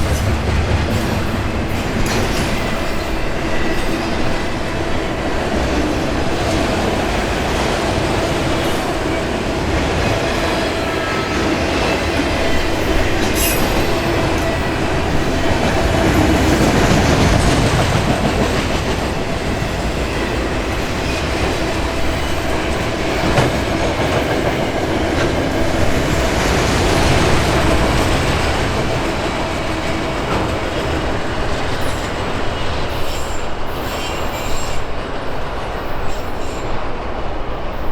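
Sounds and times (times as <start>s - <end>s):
train wheels on rails: 0.0s - 37.9s.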